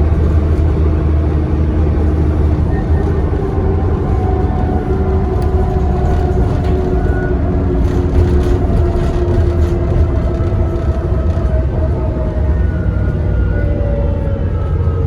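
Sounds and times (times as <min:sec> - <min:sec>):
diesel bus engine: 0:00.0 - 0:15.0
road rumble: 0:00.0 - 0:15.0.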